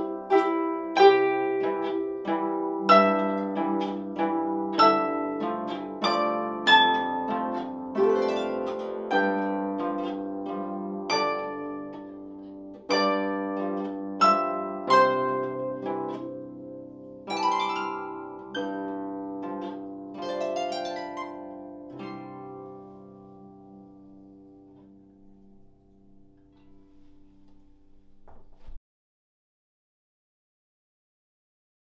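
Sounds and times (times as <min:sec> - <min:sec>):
harp playing a waltz: 0:00.0 - 0:28.2.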